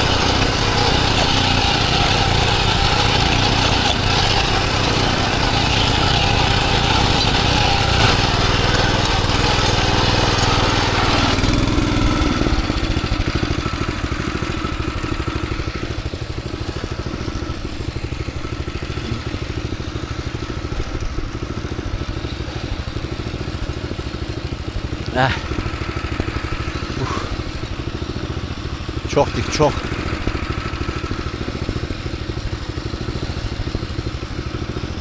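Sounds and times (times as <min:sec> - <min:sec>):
farm machine engine running: 0:00.0 - 0:35.0.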